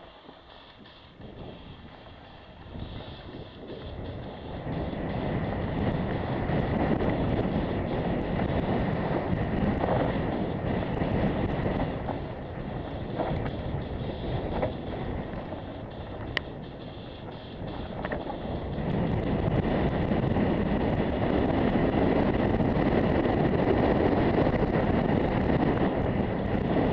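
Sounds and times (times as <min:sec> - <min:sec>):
bike rattling and clicking: 0:00.0 - 0:26.9
bike tyres on gravel: 0:00.0 - 0:26.9
wind buffeting microphone: 0:00.0 - 0:26.9.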